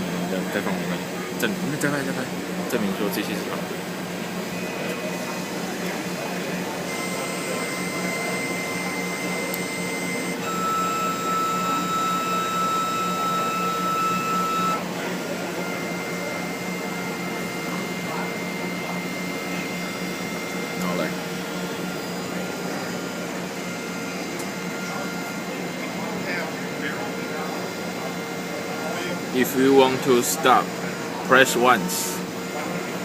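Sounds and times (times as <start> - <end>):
fan hum: 0.0 - 33.0
stepper motors whining: 4.4 - 33.0.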